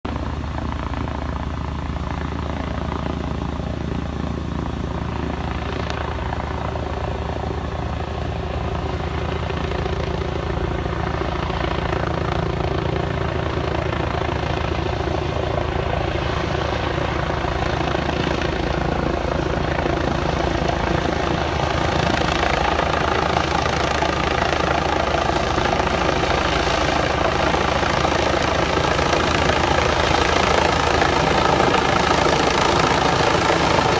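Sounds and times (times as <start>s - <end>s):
helicopter rotor and turbine: 0.0s - 33.9s.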